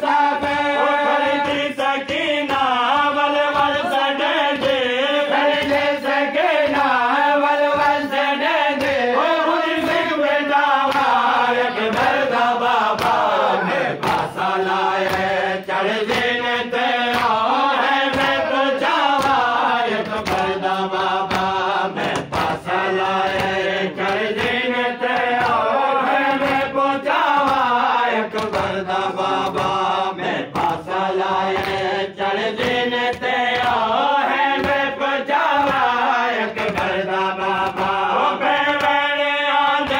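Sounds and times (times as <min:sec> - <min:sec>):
men chanting together: 0:00.0 - 0:39.9.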